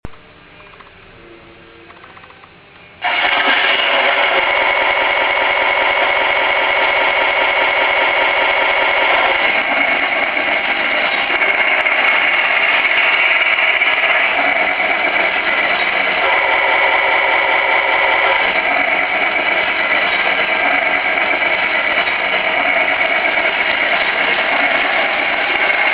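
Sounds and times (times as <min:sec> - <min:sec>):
simulated diesel engine from speaker: 0:02.8 - 0:25.9.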